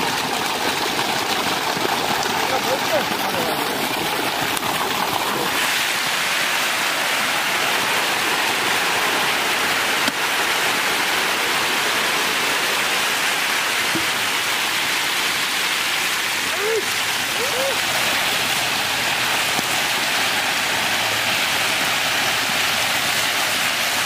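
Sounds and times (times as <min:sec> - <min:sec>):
fish splashing at water surface: 0:00.0 - 0:10.9, 0:15.5 - 0:24.0.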